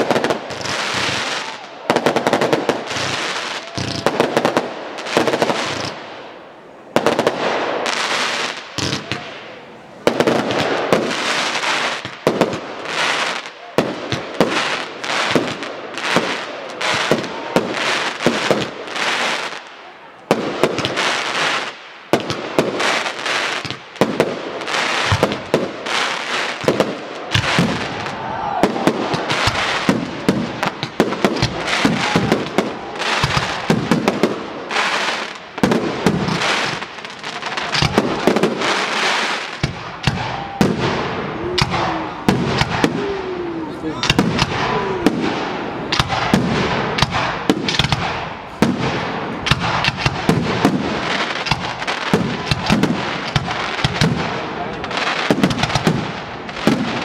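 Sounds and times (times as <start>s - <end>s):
fireworks crackling: 0.0s - 57.0s
fireworks launching and bursting: 0.0s - 57.0s.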